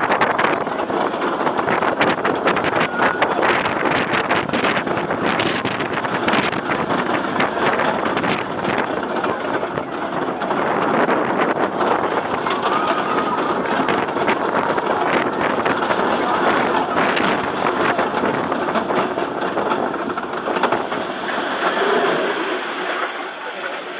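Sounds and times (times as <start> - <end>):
roller coaster rattling on track: 0.0 - 23.9.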